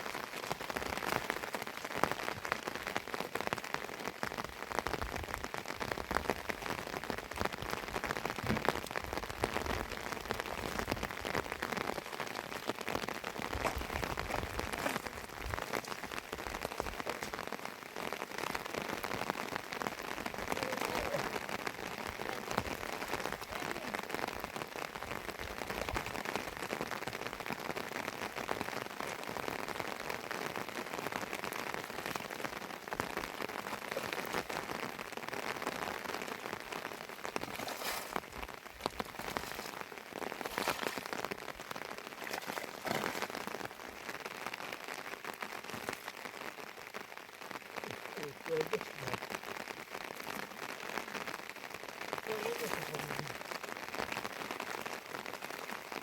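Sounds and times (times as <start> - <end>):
heavy rain falling: 0.0 - 56.0
louder raindrop hits: 0.0 - 56.0.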